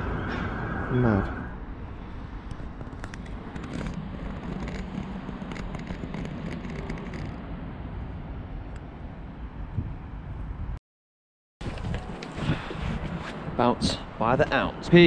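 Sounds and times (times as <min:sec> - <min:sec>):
distant traffic rumble: 0:00.0 - 0:10.8, 0:11.6 - 0:15.0
wind on the microphone: 0:01.7 - 0:10.8, 0:11.6 - 0:15.0.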